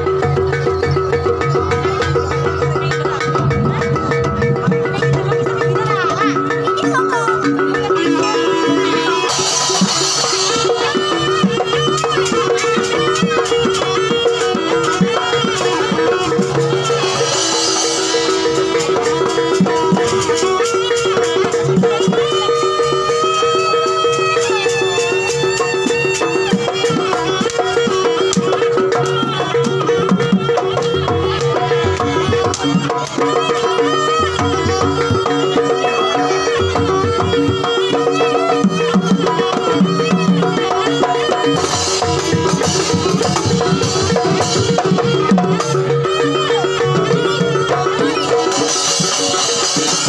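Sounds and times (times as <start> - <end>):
drum strokes: 0.0 - 50.0
held bending melody line: 0.0 - 50.0
repeating metallophone pattern: 0.0 - 50.0.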